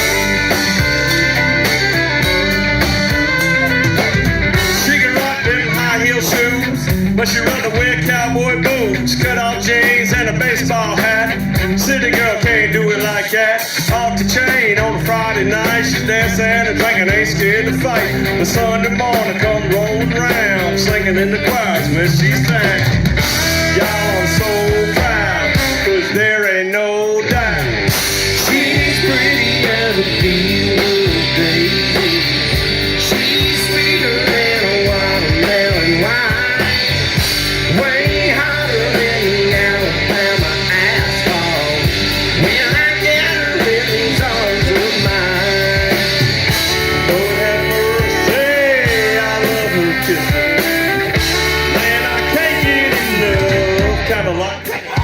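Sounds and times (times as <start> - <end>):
drums: 0.0 - 55.0
electric guitar: 0.0 - 55.0
person singing: 0.0 - 55.0.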